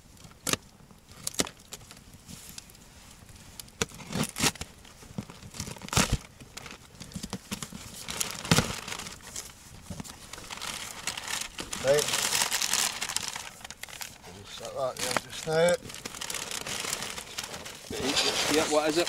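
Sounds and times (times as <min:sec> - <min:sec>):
cardboard packaging crinkling and tearing: 0:00.2 - 0:19.0.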